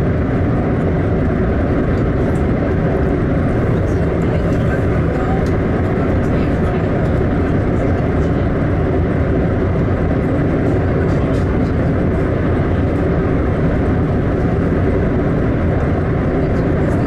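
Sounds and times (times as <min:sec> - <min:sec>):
train running at speed: 0:00.0 - 0:17.0.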